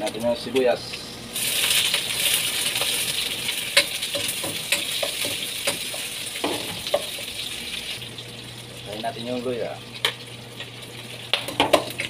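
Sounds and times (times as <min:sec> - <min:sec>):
onion sizzling in hot oil: 0:00.1 - 0:12.0.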